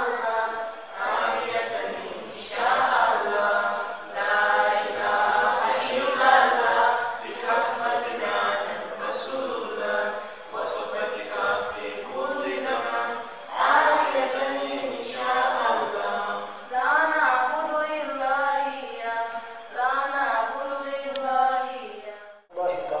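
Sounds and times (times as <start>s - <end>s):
group chanting without instruments: 0.0s - 21.5s.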